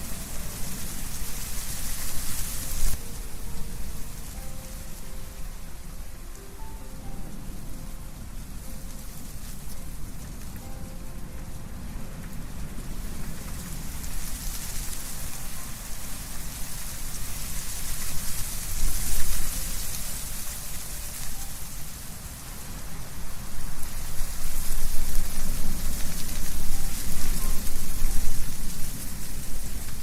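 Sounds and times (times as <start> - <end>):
leaves rustling: 0.0 - 30.0
wind through trees: 0.0 - 30.0.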